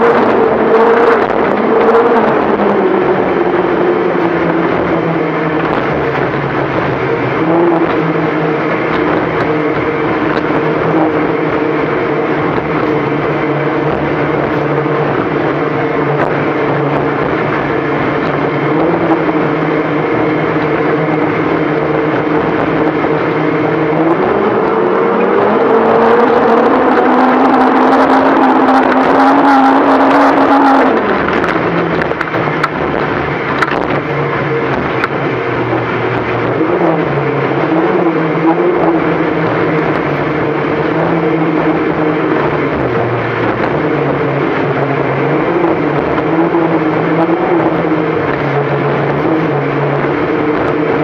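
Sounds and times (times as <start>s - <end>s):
boat engines droning: 0.0s - 51.0s.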